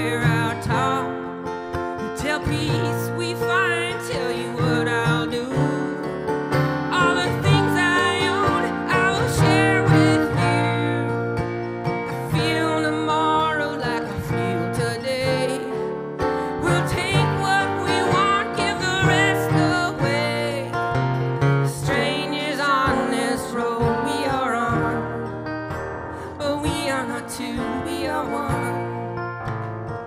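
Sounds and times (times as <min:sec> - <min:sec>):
acoustic guitar: 0:00.0 - 0:30.0
live folk band music: 0:00.0 - 0:30.0.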